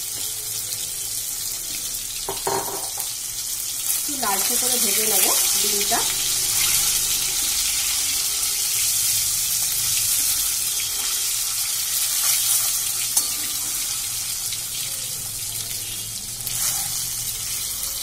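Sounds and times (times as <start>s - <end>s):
eggs sizzling in hot oil: 0.0s - 18.0s.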